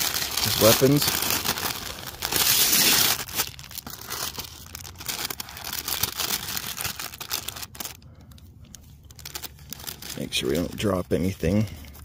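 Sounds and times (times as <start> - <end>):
packaging wrap crinkling: 0.0 - 12.0.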